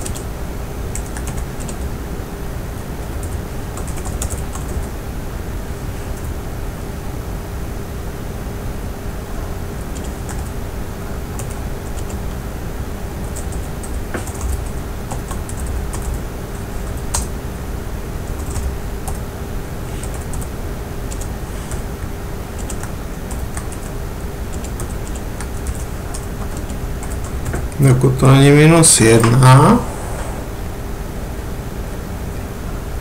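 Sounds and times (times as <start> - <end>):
background hum: 0.0 - 33.0.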